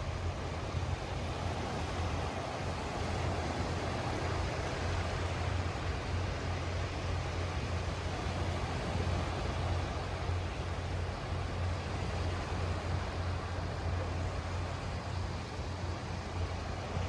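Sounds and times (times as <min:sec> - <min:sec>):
low sea rumble: 0:00.0 - 0:17.0
sea rushing wash: 0:00.0 - 0:17.0.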